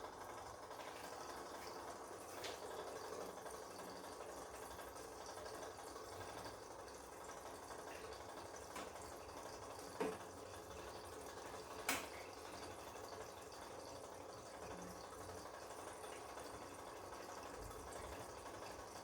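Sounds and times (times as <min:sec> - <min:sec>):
washing machine water noise: 0:00.0 - 0:19.0.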